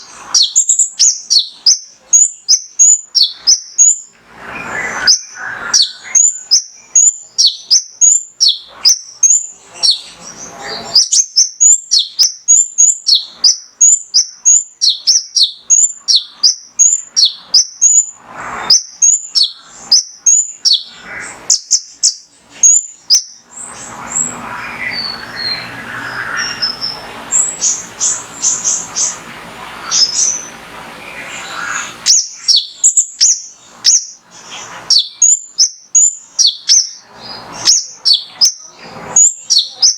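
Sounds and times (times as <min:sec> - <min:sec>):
bird chirping: 0:00.0 - 0:39.9
bird twittering: 0:00.0 - 0:39.9
hiss-like background: 0:00.0 - 0:39.9.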